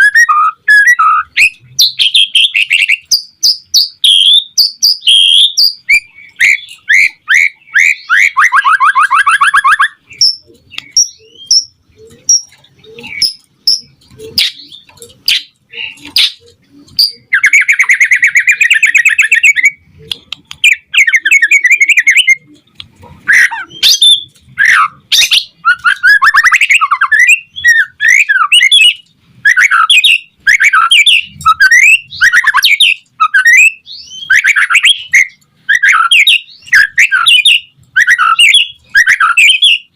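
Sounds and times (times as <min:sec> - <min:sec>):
songbird singing whistles and trills: 0:00.0 - 0:19.8, 0:20.5 - 0:22.6, 0:23.2 - 0:39.9.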